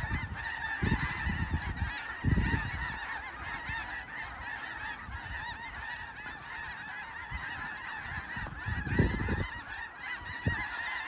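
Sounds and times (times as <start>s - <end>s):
flock of geese calling: 0.0s - 11.0s.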